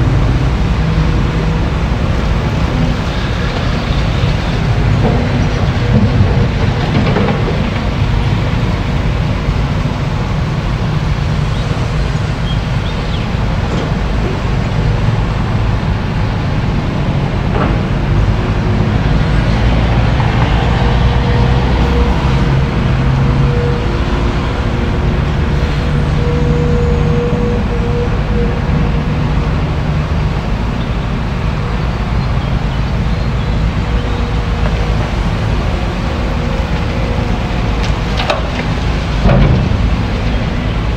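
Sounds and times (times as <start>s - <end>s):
excavator diesel engine under load: 0.0s - 40.9s.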